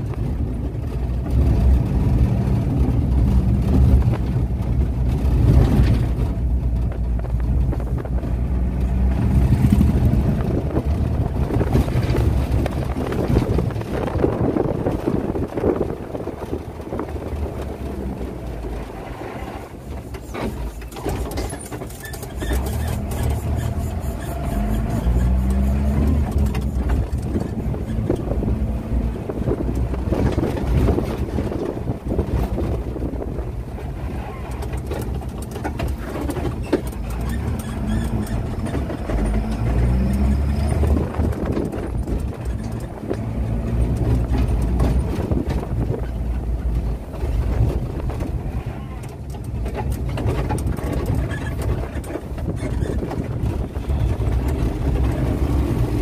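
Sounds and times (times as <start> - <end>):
engine and road rumble: 0.0 - 56.0
wind noise: 0.0 - 56.0.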